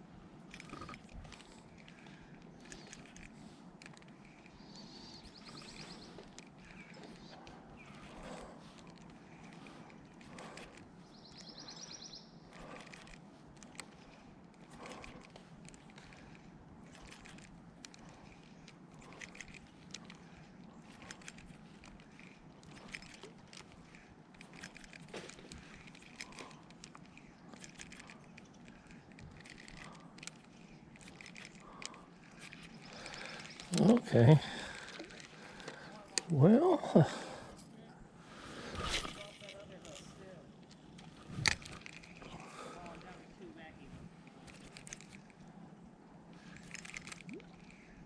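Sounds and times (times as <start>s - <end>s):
small clicks and rustles: 0.0s - 37.8s, 38.6s - 48.0s.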